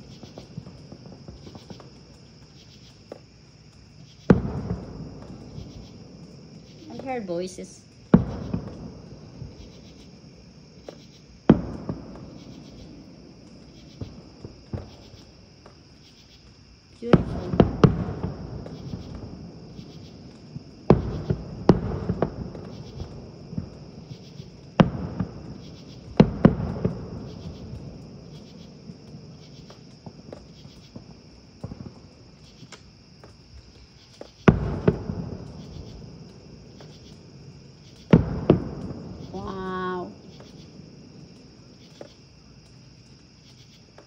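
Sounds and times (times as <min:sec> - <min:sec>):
crickets chirping: 0:00.0 - 0:44.0.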